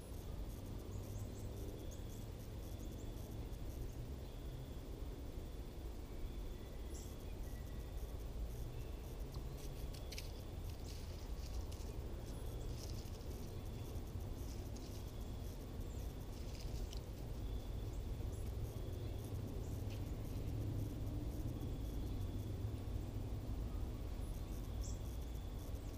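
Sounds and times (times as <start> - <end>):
faint high steady tone: 0.0 - 25.9
low constant rumble: 0.0 - 25.9.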